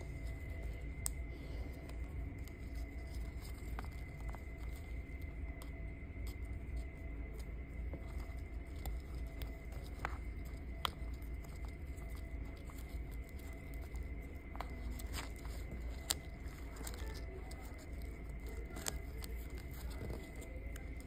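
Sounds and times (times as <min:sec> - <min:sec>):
cord rustling in hands: 0:00.0 - 0:21.0
steady low hum: 0:00.0 - 0:21.0.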